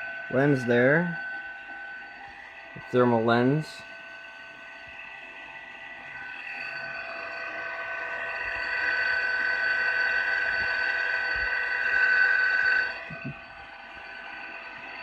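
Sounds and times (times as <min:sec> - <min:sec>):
cooling pump high-pitched whine: 0:00.0 - 0:15.0.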